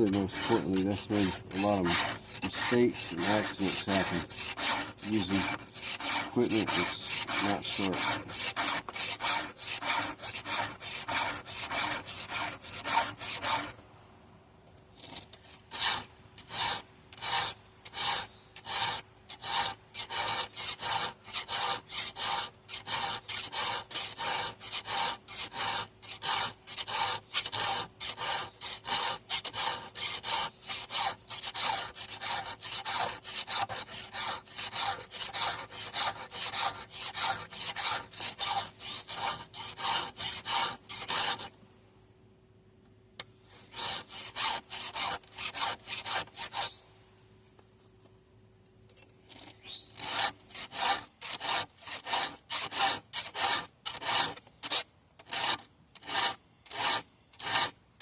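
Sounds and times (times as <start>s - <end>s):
file rasping on chainsaw chain: 0.0s - 13.8s, 15.0s - 41.6s, 43.6s - 46.7s, 49.3s - 57.8s.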